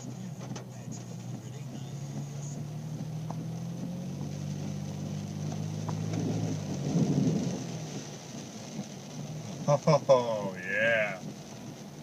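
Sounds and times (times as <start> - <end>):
rushing water: 0.0 - 12.0
suv engine humming: 0.0 - 12.0.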